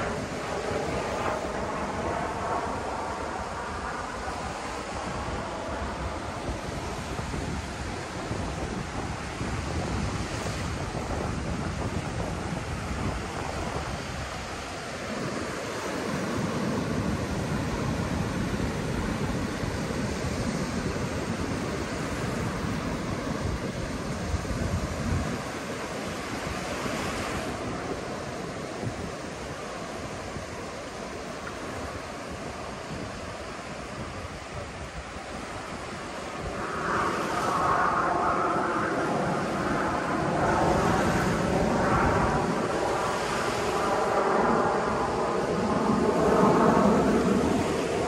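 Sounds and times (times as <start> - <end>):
sea waves washing onto beach: 0.0 - 48.0
wind rumbling on microphone: 0.0 - 48.0.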